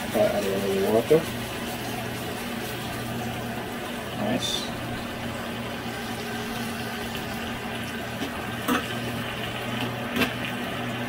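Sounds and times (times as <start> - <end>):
marinade sizzling in pan: 0.0 - 11.0.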